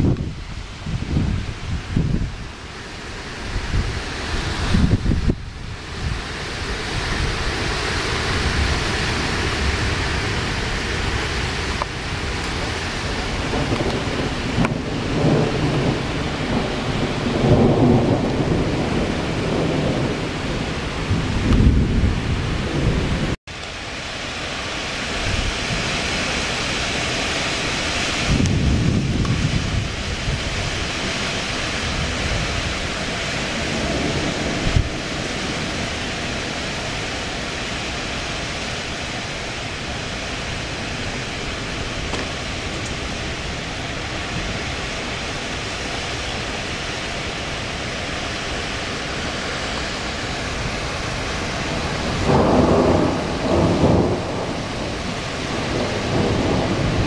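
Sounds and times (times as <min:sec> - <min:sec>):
wind rumble on microphone: 0:00.0 - 0:23.4, 0:25.0 - 0:26.4, 0:27.1 - 0:57.0
gusty wind through trees: 0:00.0 - 0:57.0.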